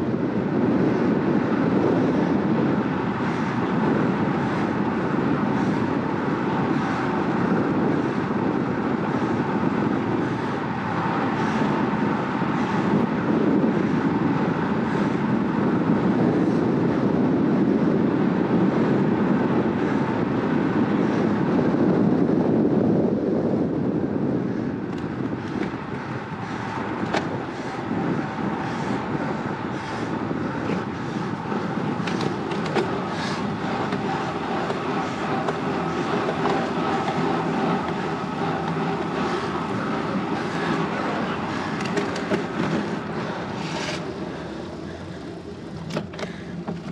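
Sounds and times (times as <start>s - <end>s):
tyre noise on asphalt: 0.0s - 46.9s
wind rushing over microphone: 0.0s - 46.9s.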